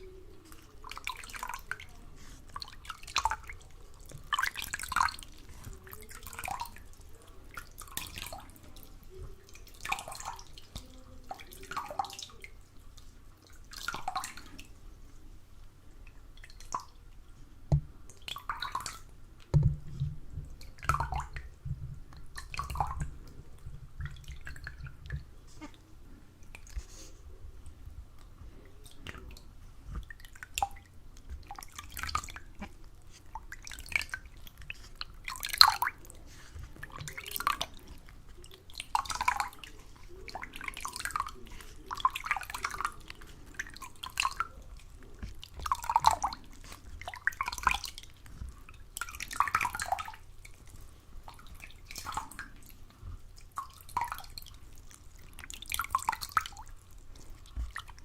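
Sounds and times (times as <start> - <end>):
water dripping and splashing: 0.0 - 58.0.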